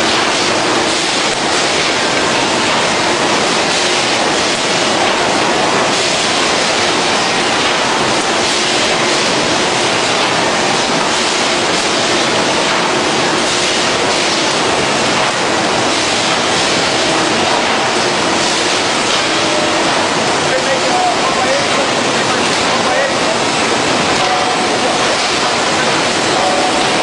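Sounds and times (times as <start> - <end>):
hot press machinery running: 0.0 - 27.0.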